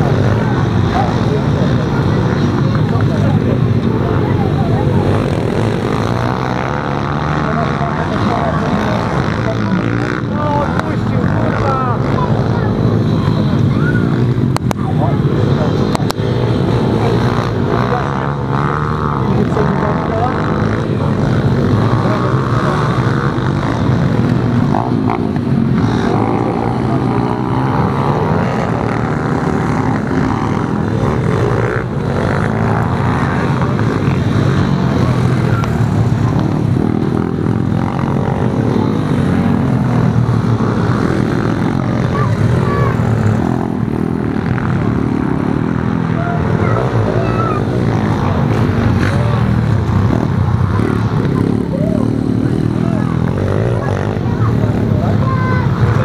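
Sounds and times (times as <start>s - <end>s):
pit bike engines revving: 0.0s - 56.0s.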